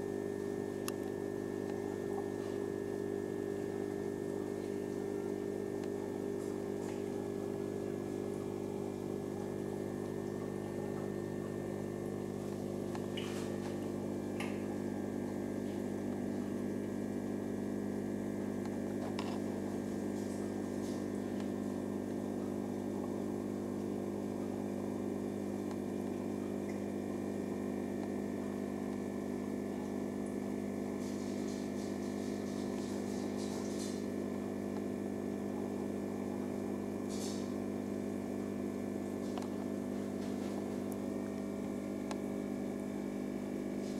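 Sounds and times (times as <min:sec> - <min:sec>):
aquarium pump humming: 0:00.0 - 0:43.9.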